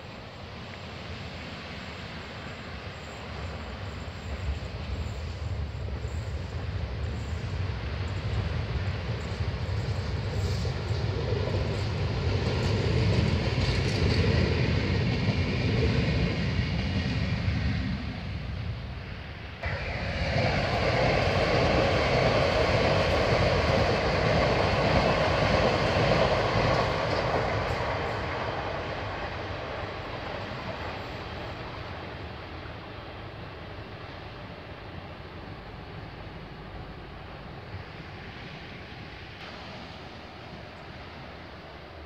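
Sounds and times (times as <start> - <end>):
train rushing noise: 0.0 - 42.0
train wheels rumbling on rails: 0.0 - 42.0.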